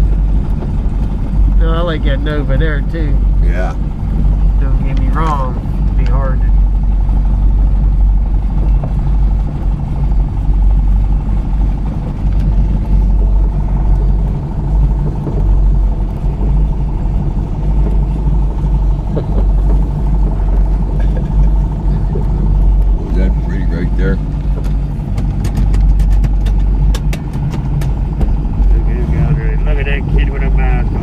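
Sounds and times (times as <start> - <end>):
car engine drone: 0.0 - 31.0
road noise: 0.0 - 31.0.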